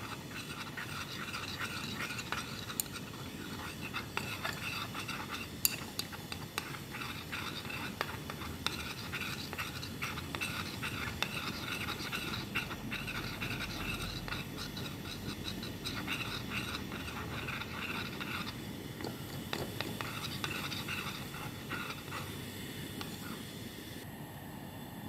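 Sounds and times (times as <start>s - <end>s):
glass rod scraping porcelain dish: 0.0s - 22.3s.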